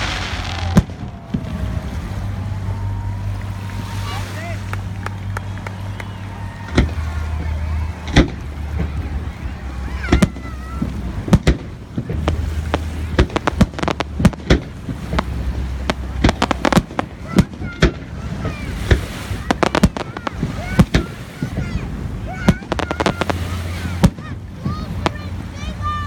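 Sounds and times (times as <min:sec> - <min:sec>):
fireworks banging: 0:00.0 - 0:03.9, 0:06.6 - 0:26.0.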